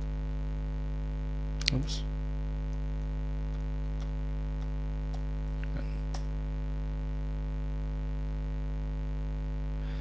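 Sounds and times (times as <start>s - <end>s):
buzzy mains hum: 0.0s - 10.0s.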